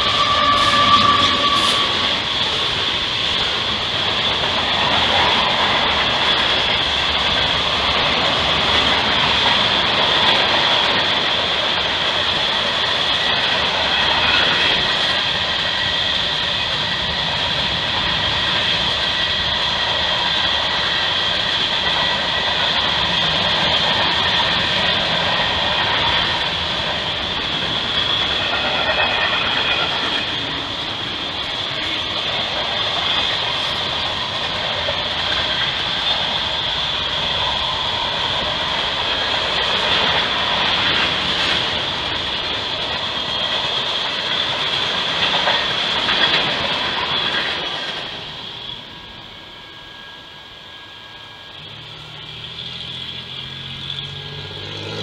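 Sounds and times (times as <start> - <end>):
high-pitched steady tone: 0.0 - 44.3, 46.4 - 54.4
freight train cars rolling: 0.0 - 55.0.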